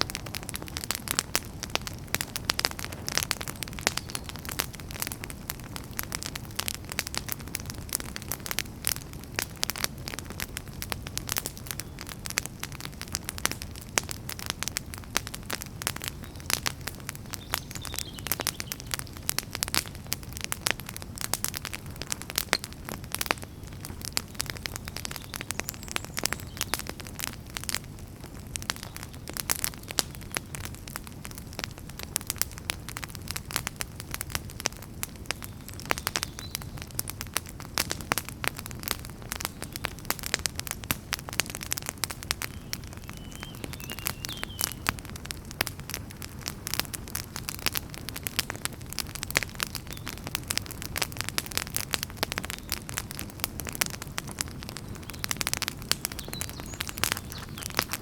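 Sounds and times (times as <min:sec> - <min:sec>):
fire crackling: 0:00.0 - 0:58.0
flames rumbling: 0:00.0 - 0:58.0.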